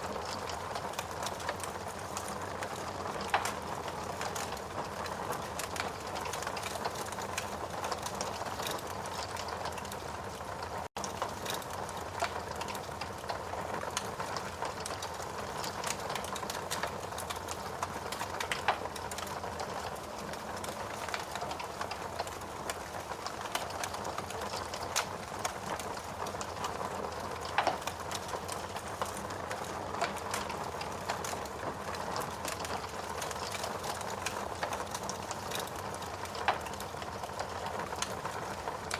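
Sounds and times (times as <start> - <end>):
fire crackling and popping: 0.0 - 38.9
hiss of rain: 0.0 - 38.9.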